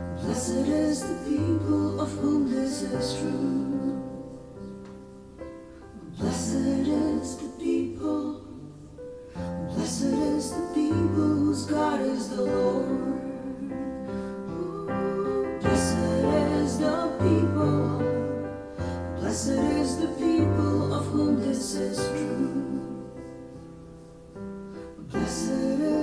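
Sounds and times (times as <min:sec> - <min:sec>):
low piano chords: 0:00.0 - 0:26.0
woman singing: 0:00.2 - 0:04.4, 0:06.0 - 0:08.9, 0:09.6 - 0:23.2, 0:25.0 - 0:26.0.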